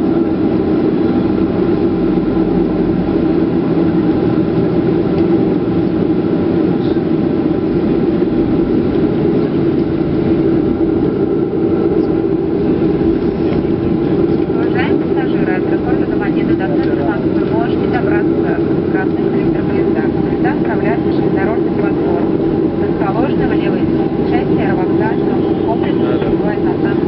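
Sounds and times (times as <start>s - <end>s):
airplane cabin engine rush: 0.0s - 27.0s.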